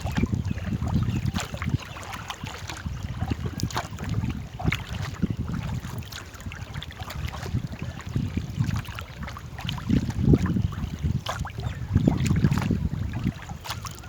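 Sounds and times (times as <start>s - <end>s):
paddles splashing in water: 0.0s - 14.0s
wind rumble on microphone: 0.0s - 14.0s.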